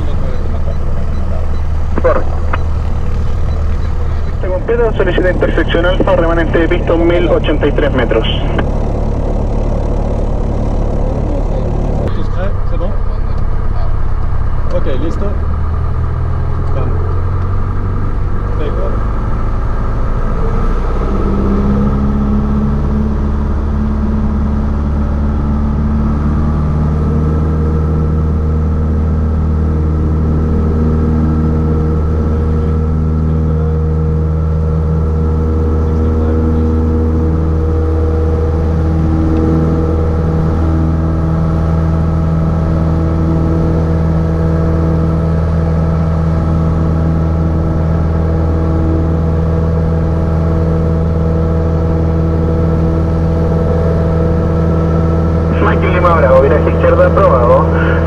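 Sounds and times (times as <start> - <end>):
propeller plane engine drone: 0.0 - 58.0.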